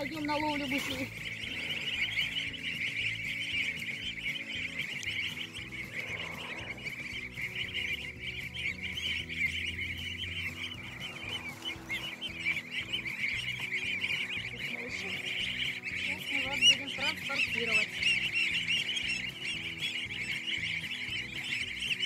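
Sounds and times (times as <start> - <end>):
background music: 0.0 - 22.0
goslings peeping: 0.0 - 22.0.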